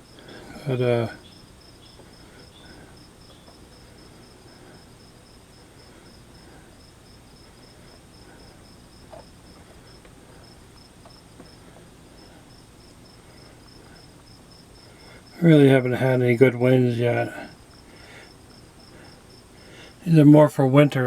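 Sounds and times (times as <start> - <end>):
cricket chirping: 0.0 - 20.0
faint high whine: 0.0 - 21.0.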